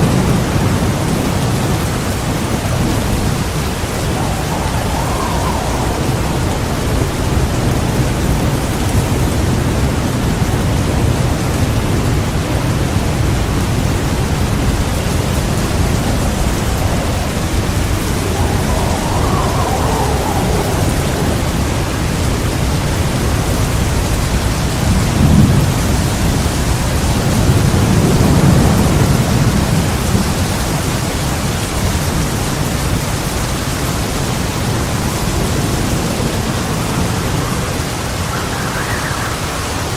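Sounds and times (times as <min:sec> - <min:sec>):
thunder rumbling: 0:00.0 - 0:32.2, 0:34.4 - 0:39.9
heavy rain falling: 0:00.0 - 0:39.9.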